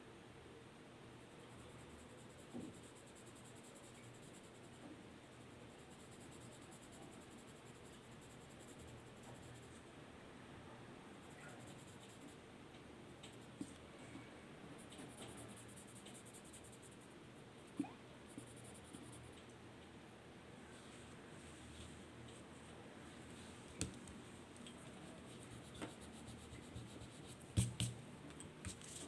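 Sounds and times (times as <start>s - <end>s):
low room hum: 0.0s - 29.0s.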